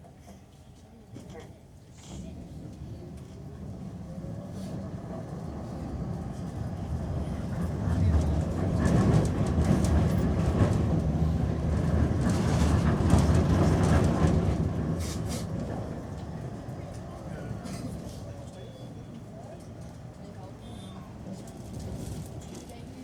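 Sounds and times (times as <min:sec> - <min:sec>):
tram rumbling along rails: 0:01.1 - 0:23.0.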